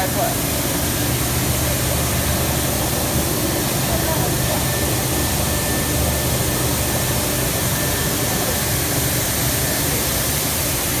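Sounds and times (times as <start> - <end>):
machine hum with hiss: 0.0 - 11.0.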